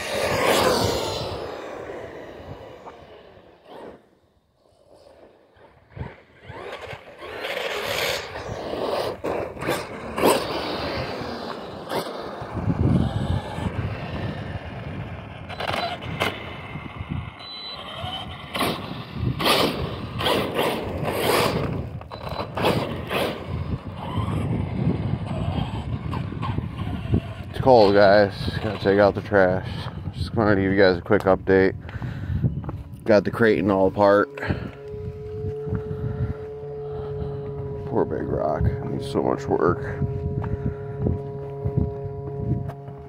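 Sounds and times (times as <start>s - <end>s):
rc truck tires scraping gravel: 0.0s - 43.0s.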